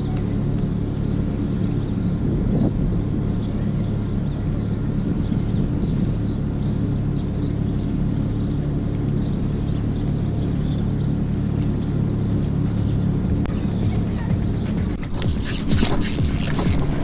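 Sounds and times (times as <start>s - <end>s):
machinery drone: 0.0s - 17.0s
small birds chirping: 0.0s - 17.0s.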